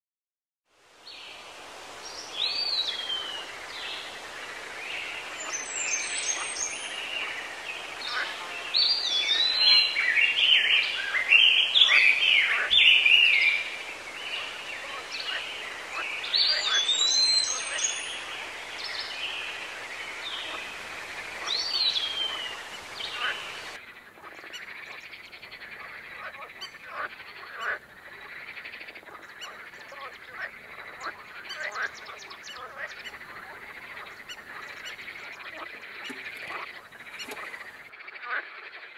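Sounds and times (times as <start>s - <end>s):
songbirds singing: 2.0s - 37.9s.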